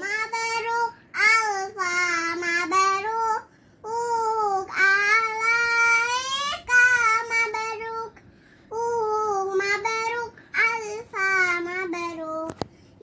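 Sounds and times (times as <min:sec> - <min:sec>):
girl singing: 0:00.0 - 0:12.6.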